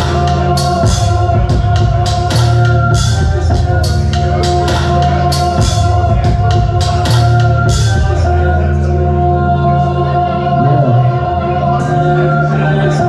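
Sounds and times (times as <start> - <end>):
deep bass: 0.0 - 13.0
organ-like chords: 0.0 - 13.0.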